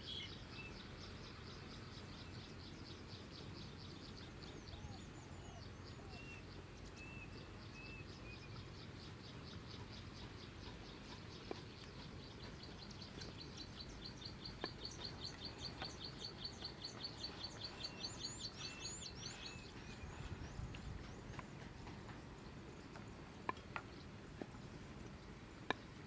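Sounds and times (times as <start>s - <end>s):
small bird chirping: 0.0s - 25.9s.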